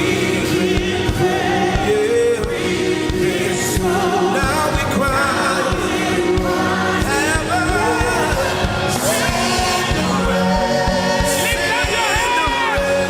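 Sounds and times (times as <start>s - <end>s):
band with steady beat: 0.0s - 13.0s
singers: 0.0s - 13.0s.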